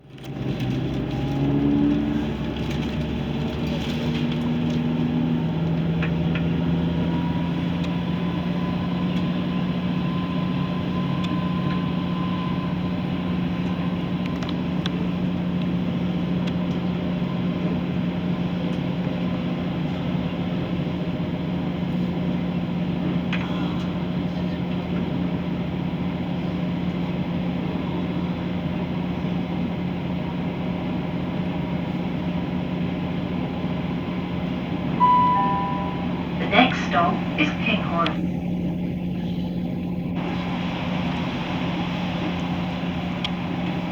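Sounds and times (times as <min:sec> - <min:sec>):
train running noise: 0:00.2 - 0:43.9
train diesel engine howl: 0:00.9 - 0:43.9.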